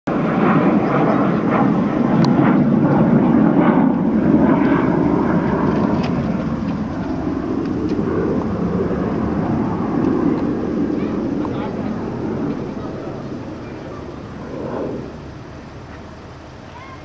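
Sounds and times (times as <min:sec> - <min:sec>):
airplane engine droning: 0:00.1 - 0:17.0.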